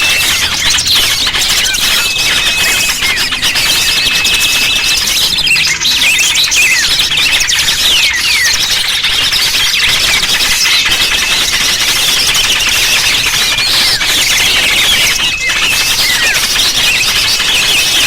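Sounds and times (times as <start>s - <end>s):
small songbirds chattering and chirping: 0.0s - 18.0s.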